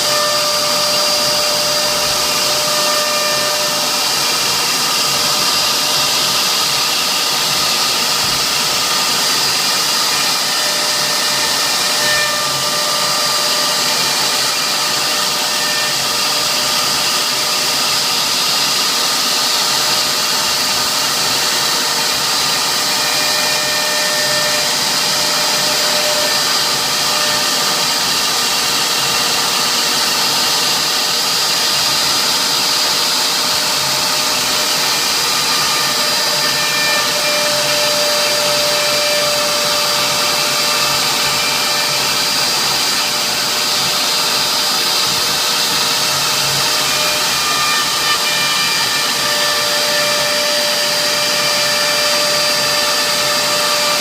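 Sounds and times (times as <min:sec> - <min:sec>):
router spindle whine: 0:00.0 - 0:54.0.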